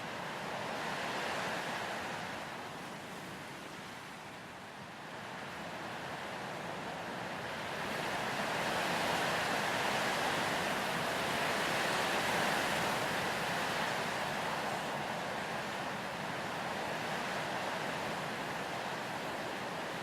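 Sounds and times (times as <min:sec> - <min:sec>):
wind blowing through grass and trees: 0:00.0 - 0:20.0.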